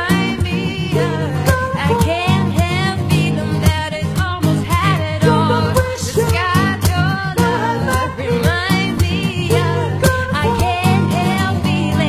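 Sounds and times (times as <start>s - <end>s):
strummed acoustic guitar: 0.0s - 12.0s
woman singing a pop ballad: 0.0s - 12.0s.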